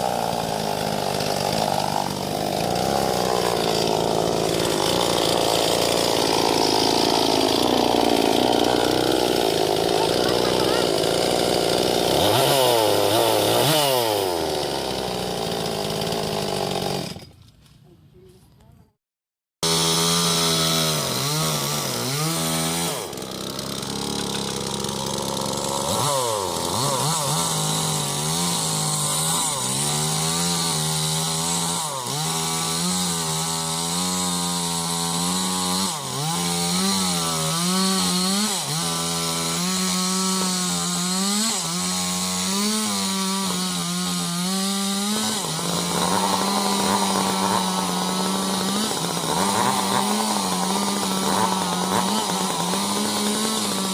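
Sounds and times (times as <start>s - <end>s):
chainsaw cutting wood: 0.0s - 17.6s, 19.6s - 53.9s.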